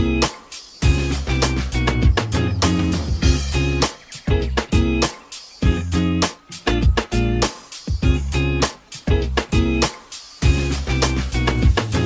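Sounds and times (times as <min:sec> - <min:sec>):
guitar music with steady beat: 0:00.0 - 0:12.0.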